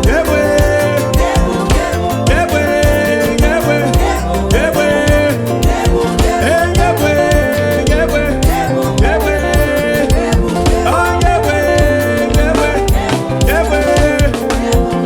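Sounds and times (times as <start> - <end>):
upbeat band music: 0.0 - 15.0.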